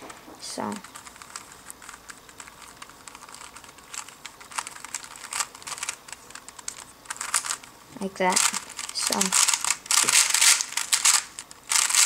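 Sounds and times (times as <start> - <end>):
puzzle cube clicking: 0.6 - 12.0.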